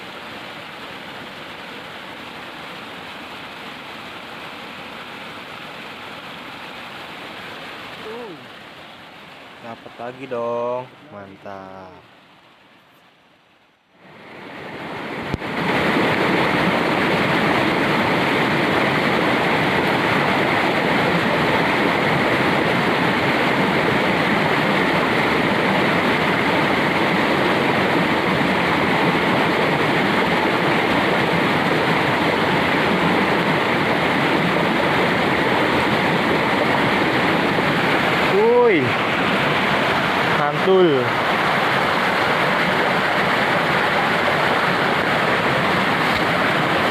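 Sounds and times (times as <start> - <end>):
flowing water rushing: 0.0 - 46.9.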